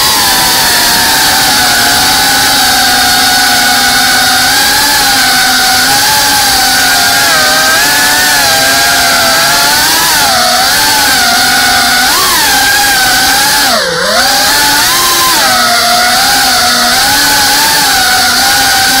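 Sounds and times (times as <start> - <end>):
quadcopter propellers buzzing: 0.0 - 19.0.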